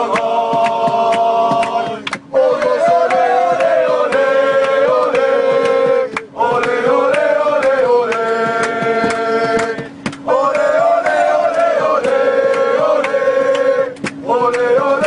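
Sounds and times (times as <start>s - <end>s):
crowd chanting: 0.0s - 9.7s, 10.3s - 15.0s
steady beat: 0.0s - 15.0s.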